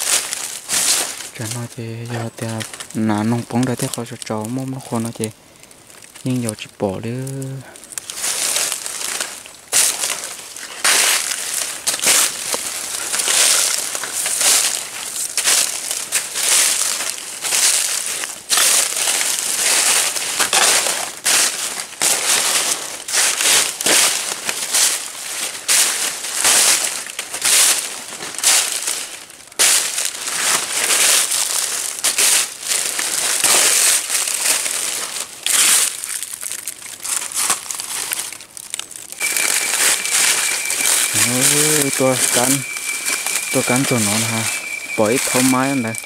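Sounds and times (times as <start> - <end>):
footsteps crunching through leaves: 0.0 - 5.2, 6.2 - 46.0.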